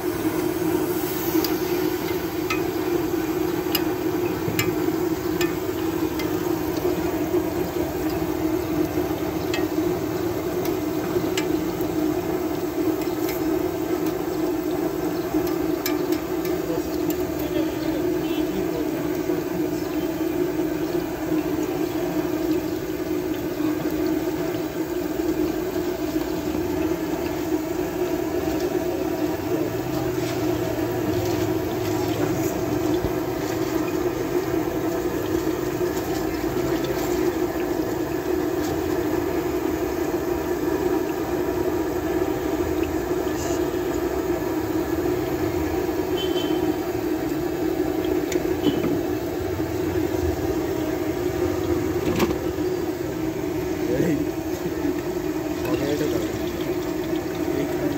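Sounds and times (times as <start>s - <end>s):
food sizzling in hot oil: 0.0s - 57.9s.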